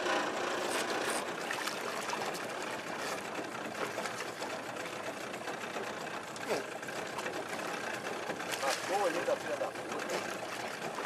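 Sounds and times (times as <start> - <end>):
fish splashing in water: 0.0 - 11.0.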